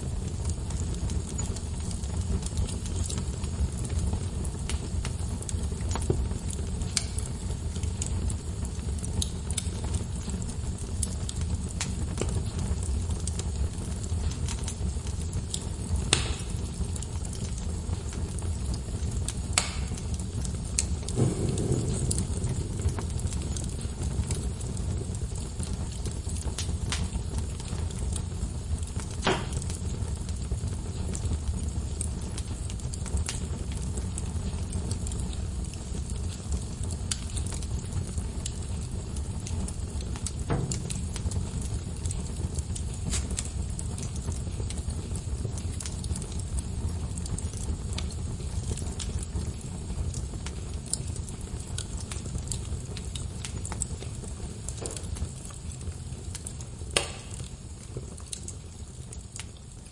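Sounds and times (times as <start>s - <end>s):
fire rumbling in fireplace: 0.0s - 59.9s
wood crackling and popping: 0.0s - 59.9s.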